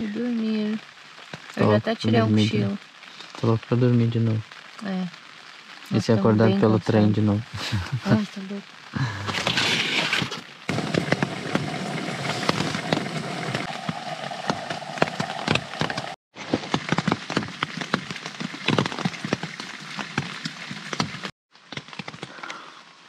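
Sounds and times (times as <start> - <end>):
rain pattering on a tent: 0.0 - 23.0.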